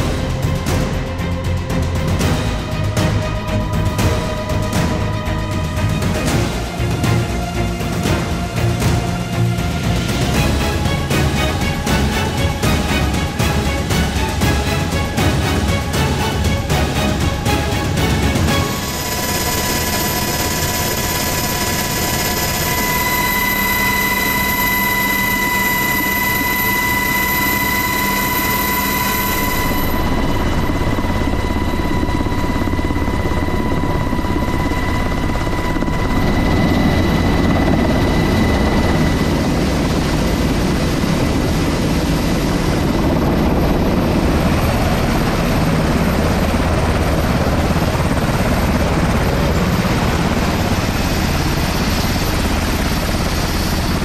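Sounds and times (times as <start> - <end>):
helicopter rotor rushing noise: 0.0 - 54.0
helicopter turbine whine: 0.0 - 54.0.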